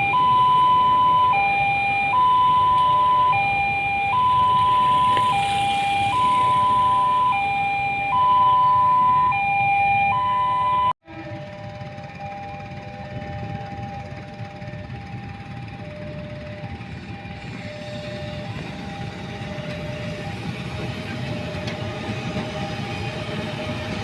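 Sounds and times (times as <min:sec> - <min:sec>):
two-tone electronic siren: 0:00.0 - 0:24.0.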